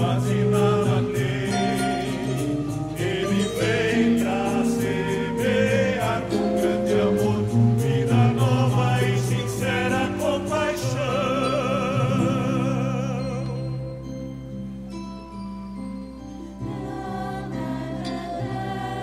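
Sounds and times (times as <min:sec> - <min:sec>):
choir singing: 0:00.0 - 0:13.8, 0:16.5 - 0:19.0
instrumental accompaniment: 0:00.0 - 0:19.0.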